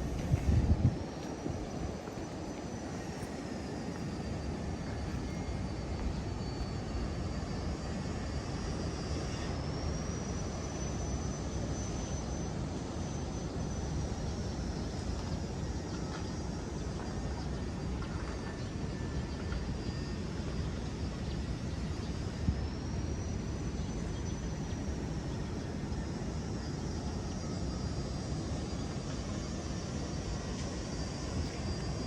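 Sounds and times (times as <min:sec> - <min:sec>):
faint high whine: 0:00.0 - 0:32.0.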